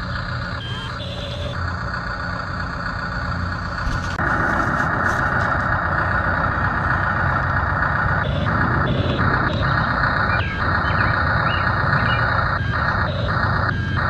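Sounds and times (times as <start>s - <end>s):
toy construction machine running: 0.0s - 14.0s.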